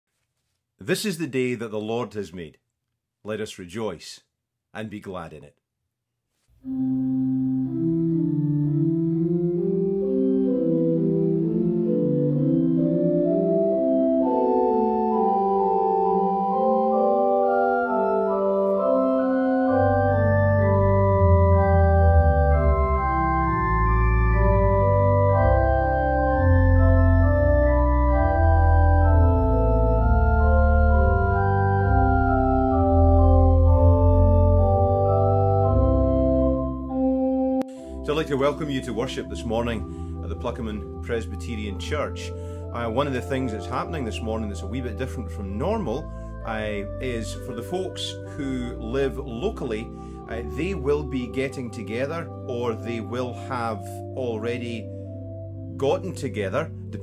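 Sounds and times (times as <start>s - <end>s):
organ playing slow chords: 6.6s - 57.0s.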